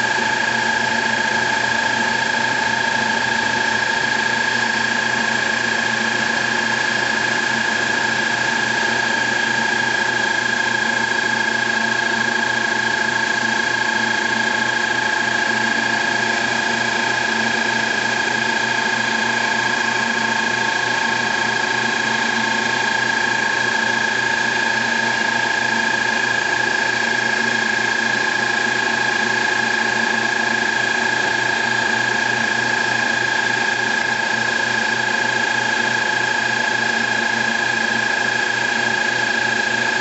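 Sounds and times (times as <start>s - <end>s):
metal lathe motor whine: 0.0s - 40.0s.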